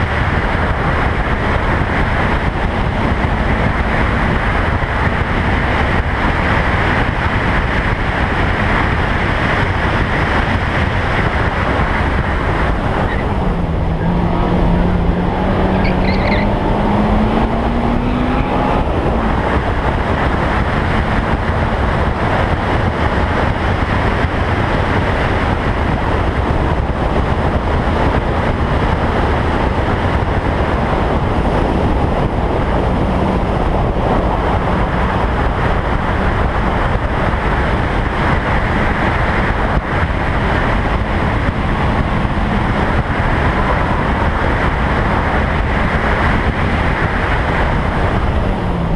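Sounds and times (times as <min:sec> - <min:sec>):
car engine running hard: 0:00.0 - 0:48.9
wind and road noise: 0:00.0 - 0:48.9.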